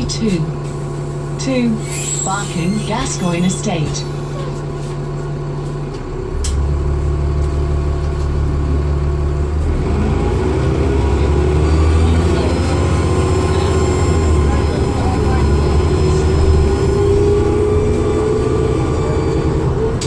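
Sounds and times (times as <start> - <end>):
bus diesel engine: 0.0 - 20.0.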